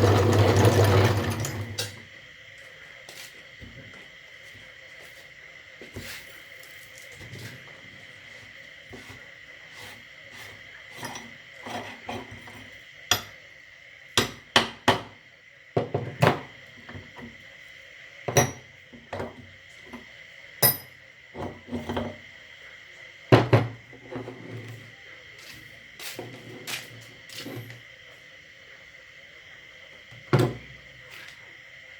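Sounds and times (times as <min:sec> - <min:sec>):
faint steady high hum: 0:00.0 - 0:31.9.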